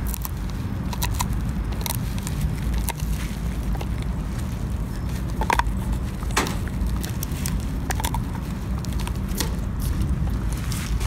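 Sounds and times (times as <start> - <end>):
dog gnawing on bone: 0.0 - 11.0
low rumble: 0.0 - 11.0.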